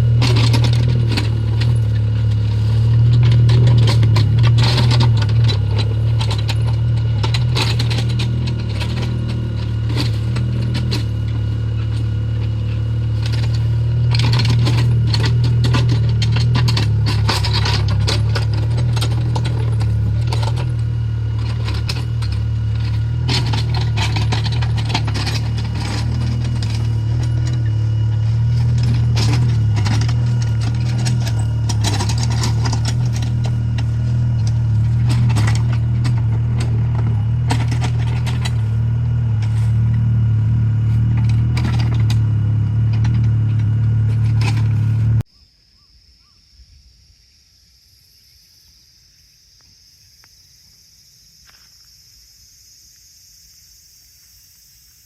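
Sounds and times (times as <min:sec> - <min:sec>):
machine clanks and rattles: 0:00.0 - 0:45.2
diesel engine running: 0:00.0 - 0:45.3.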